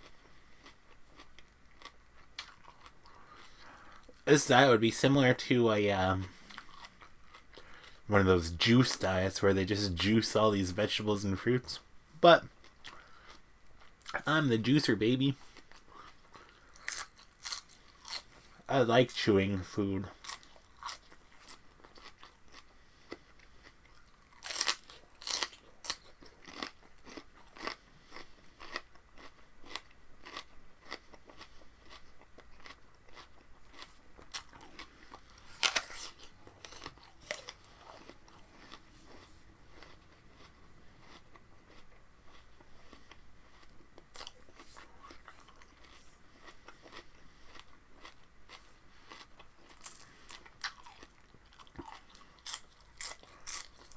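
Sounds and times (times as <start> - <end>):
chewing crunchy vegetable stalks: 0.0 - 11.6, 12.2 - 53.9.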